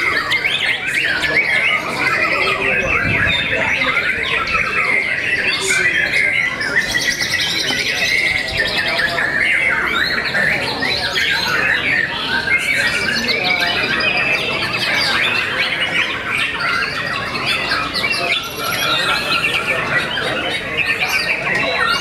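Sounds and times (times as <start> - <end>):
songbirds singing: 0.0 - 22.0.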